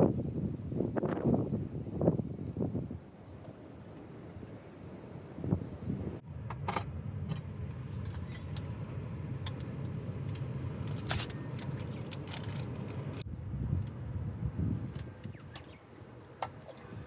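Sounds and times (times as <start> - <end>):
strong wind rumble: 0.0 - 15.6.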